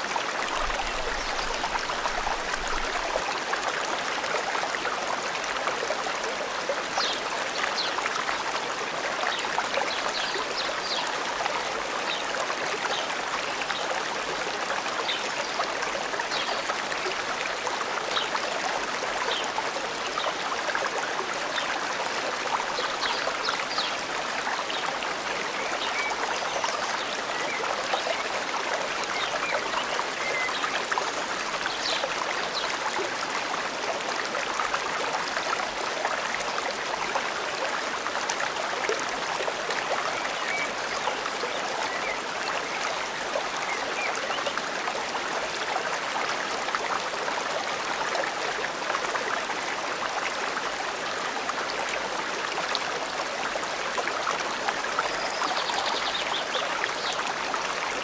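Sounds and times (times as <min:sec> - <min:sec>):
forest stream flowing: 0:00.0 - 0:58.0.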